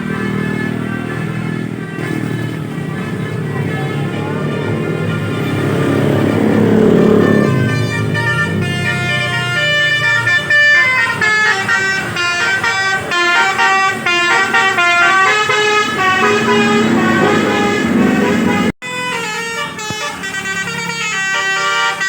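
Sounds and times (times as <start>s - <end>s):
multi-tone bus horn tune: 0.0s - 22.0s.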